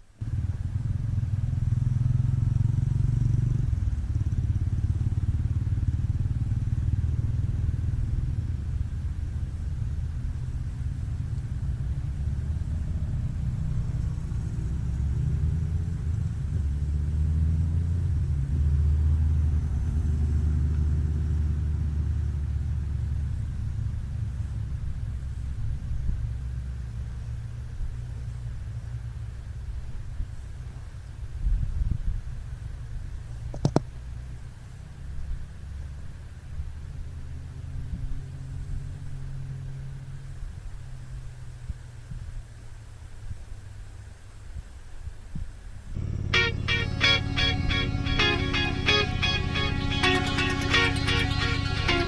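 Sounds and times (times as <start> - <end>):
motorcycle engine rumbling: 0.0 - 43.7, 45.2 - 52.0.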